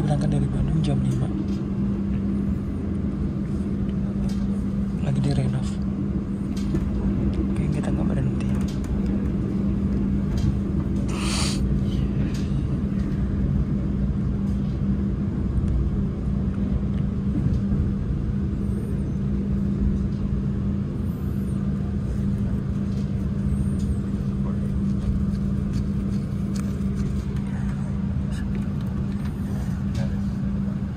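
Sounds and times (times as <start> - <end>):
constant low hum: 0.0 - 30.9
train rumble inside carriage: 0.0 - 30.9.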